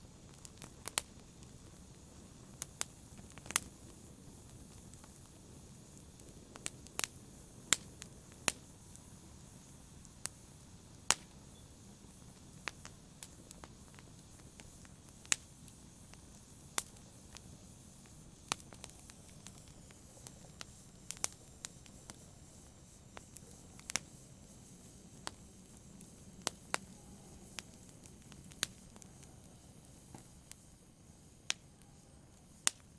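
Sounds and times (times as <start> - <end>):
faint steady hiss: 0.0 - 32.9
wood fire crackling: 0.0 - 32.9.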